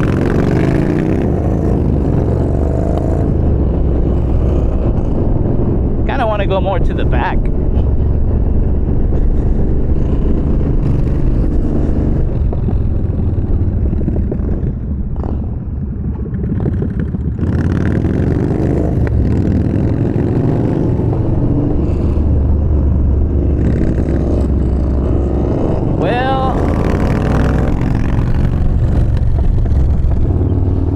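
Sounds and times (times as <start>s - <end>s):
motorcycle engine accelerating: 0.0s - 30.9s
wind noise: 0.0s - 30.9s.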